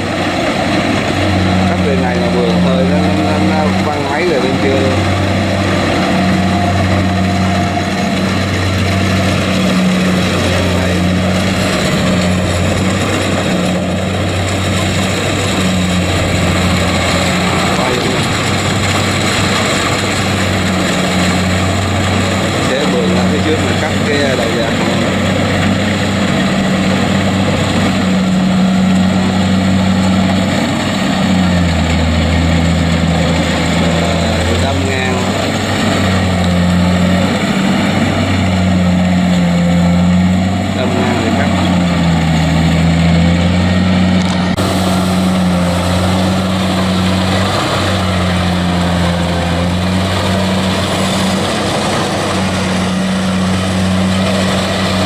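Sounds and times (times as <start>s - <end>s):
combine harvester diesel engine droning: 0.0s - 55.0s.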